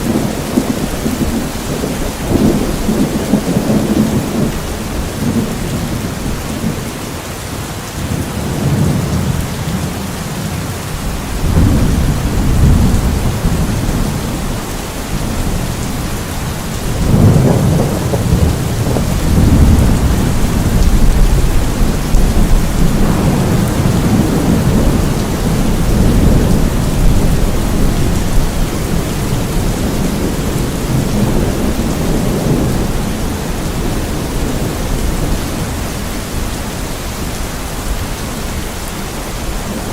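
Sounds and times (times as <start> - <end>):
rolling thunder rumbles: 0.0 - 7.3, 7.9 - 38.7
heavy rain: 0.0 - 39.9.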